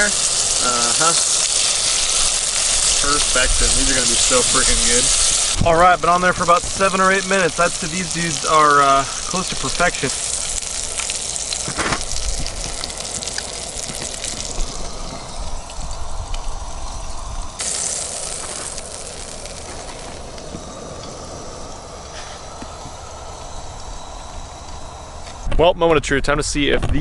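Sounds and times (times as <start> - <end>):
fish sizzling in a frying pan: 0.0 - 22.6.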